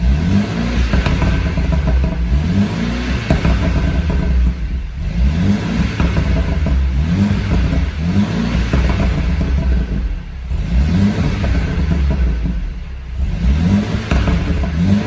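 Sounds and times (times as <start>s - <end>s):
car engine revving: 0.0s - 15.0s
exhaust pops and crackles: 0.0s - 15.0s.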